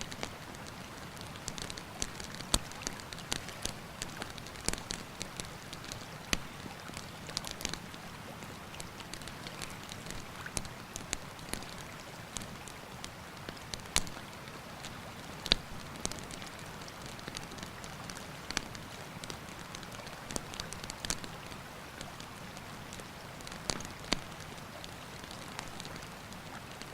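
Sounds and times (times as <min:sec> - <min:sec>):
campfire crackling and popping: 0:00.0 - 0:08.1, 0:08.7 - 0:26.9.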